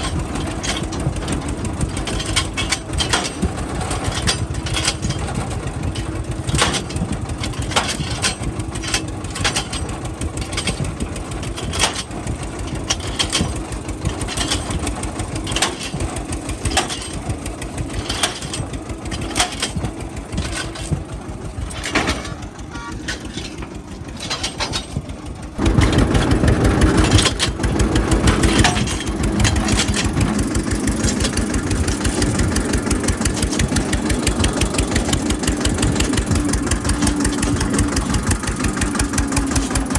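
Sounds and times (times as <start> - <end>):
clicks and knocks: 0.0 - 39.9
tractor diesel engine running: 0.0 - 39.9.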